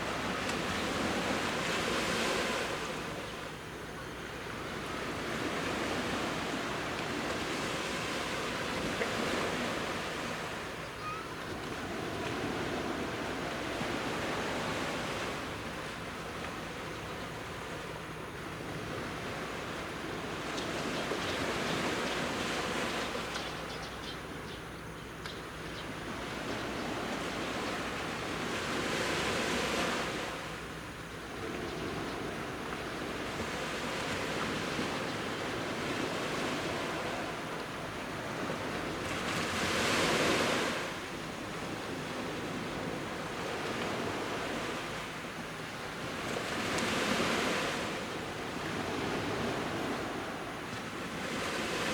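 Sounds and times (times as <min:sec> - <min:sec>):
sea waves breaking on beach: 0:00.0 - 0:03.6, 0:04.4 - 0:23.3, 0:26.0 - 0:51.9.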